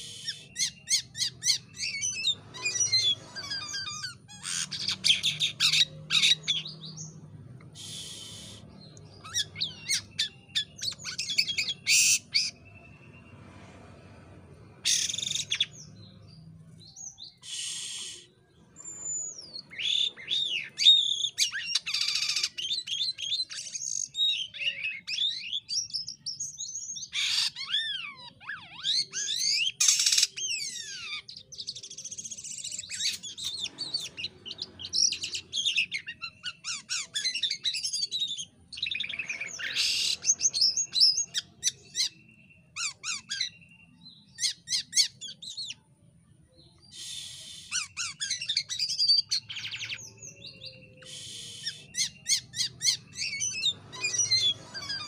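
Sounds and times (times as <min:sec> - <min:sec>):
starling singing: 0:00.0 - 0:46.0, 0:46.6 - 0:55.0.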